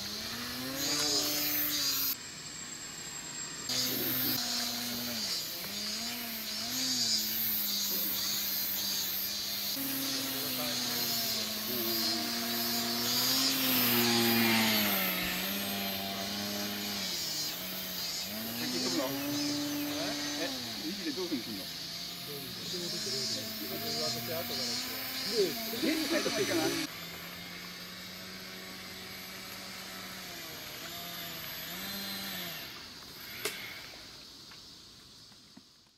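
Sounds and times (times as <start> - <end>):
model plane motor buzzing: 0.0 - 34.1.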